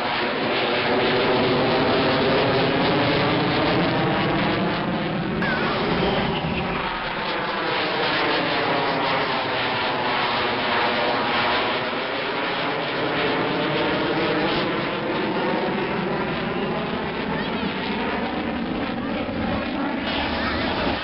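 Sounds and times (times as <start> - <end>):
aircraft flying overhead: 0.0 - 21.0.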